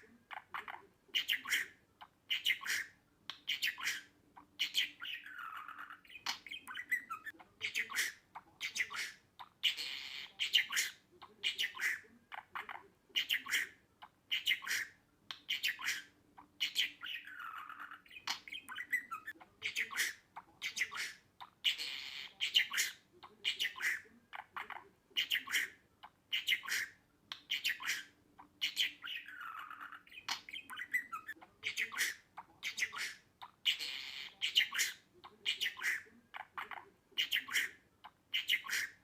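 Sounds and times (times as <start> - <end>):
budgerigar chattering: 0.0 - 39.0.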